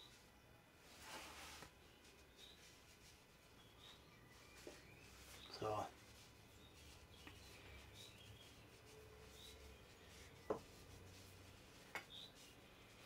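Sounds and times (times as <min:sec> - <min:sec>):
faint bird chirps: 0:01.8 - 0:13.0.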